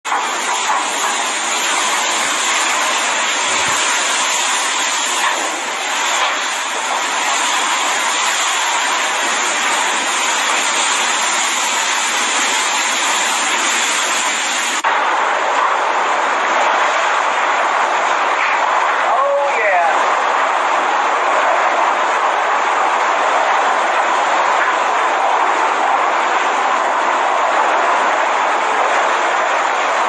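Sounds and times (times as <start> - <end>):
storm rushing: 0.1 - 30.0.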